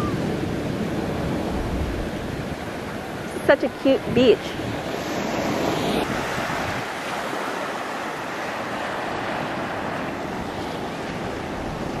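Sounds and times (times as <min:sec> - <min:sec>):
ocean surf washing up beach: 0:00.0 - 0:12.0
wind buffeting microphone: 0:00.0 - 0:12.0.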